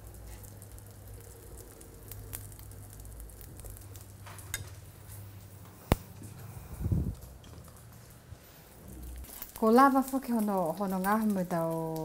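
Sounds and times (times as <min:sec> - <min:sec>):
faint crackles: 0:00.0 - 0:12.0
omelette sizzling in a pan: 0:00.0 - 0:12.0.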